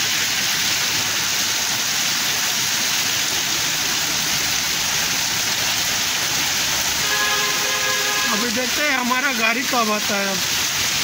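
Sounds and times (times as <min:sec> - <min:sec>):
heavy rain on road: 0:00.0 - 0:11.0.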